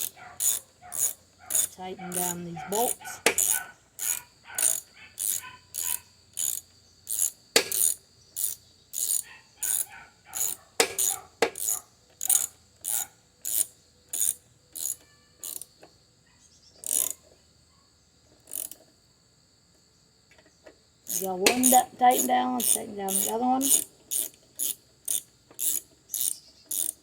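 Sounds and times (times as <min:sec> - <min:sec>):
socket ratchet clicking: 0:00.0 - 0:15.8, 0:16.8 - 0:17.2, 0:18.4 - 0:18.9, 0:21.1 - 0:27.0.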